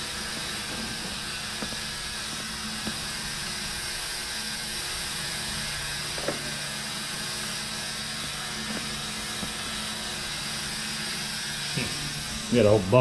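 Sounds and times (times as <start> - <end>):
mechanical whir with low hum: 0.0 - 13.0.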